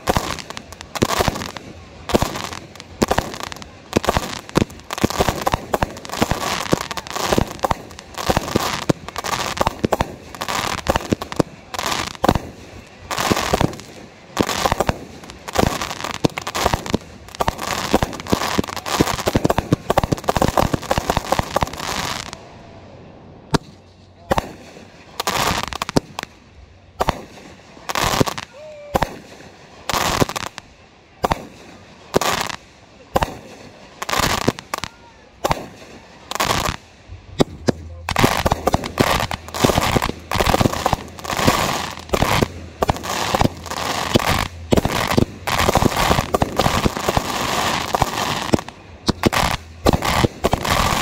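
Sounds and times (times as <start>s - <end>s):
fireworks bangs: 0.0s - 22.8s, 23.4s - 26.4s, 27.0s - 51.0s.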